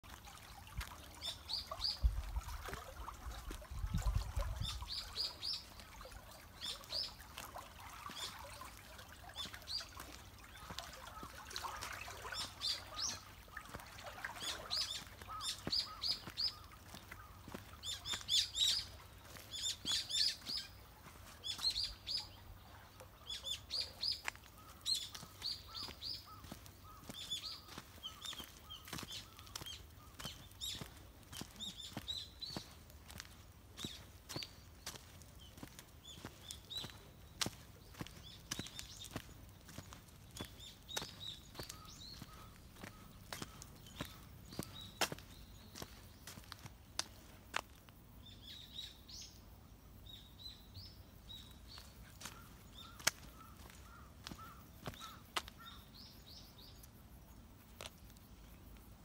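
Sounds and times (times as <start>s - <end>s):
faint running water: 0.0s - 47.8s, 51.4s - 55.6s
small birds chirping: 0.0s - 59.0s.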